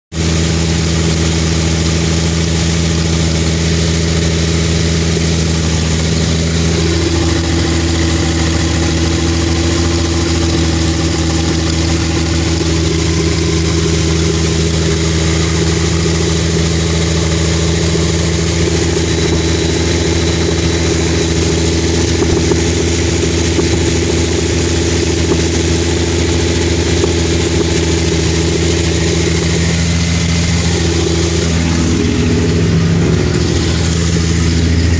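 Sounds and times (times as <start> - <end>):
loud car engine idling: 0.1 - 34.9.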